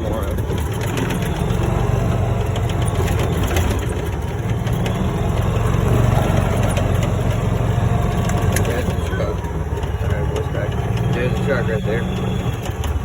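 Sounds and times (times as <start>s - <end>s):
cart rattling: 0.0s - 13.0s
golf cart engine droning: 0.0s - 13.0s.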